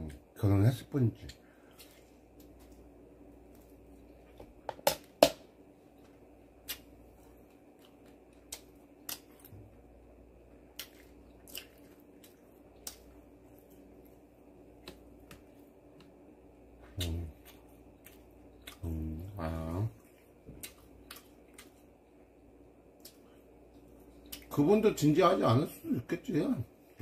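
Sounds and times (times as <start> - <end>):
room hum: 0.0 - 27.0
chewing crispy fried food: 1.2 - 4.6, 5.9 - 24.6.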